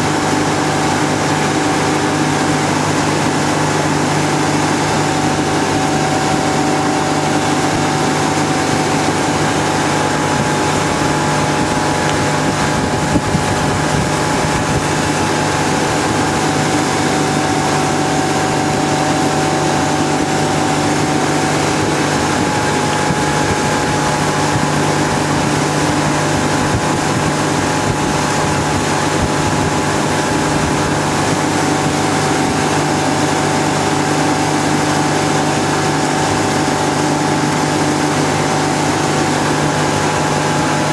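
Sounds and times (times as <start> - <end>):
boat engine droning: 0.0 - 40.9
wake rushing: 0.0 - 40.9
wind: 0.0 - 40.9.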